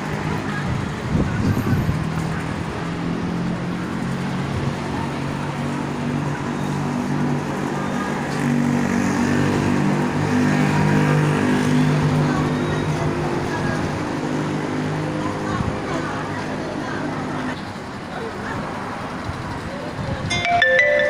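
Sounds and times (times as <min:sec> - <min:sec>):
vehicles driving past: 0:00.0 - 0:21.0.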